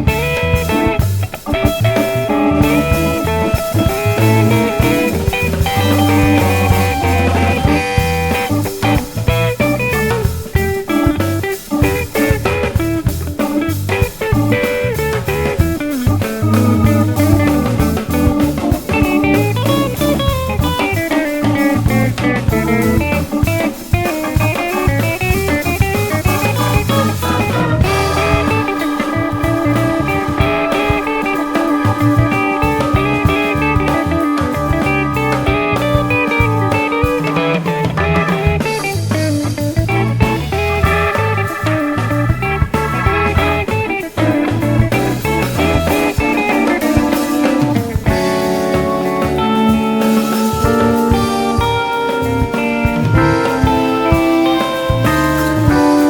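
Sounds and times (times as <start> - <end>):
blues-rock with guitar and drums: 0.0 - 56.0.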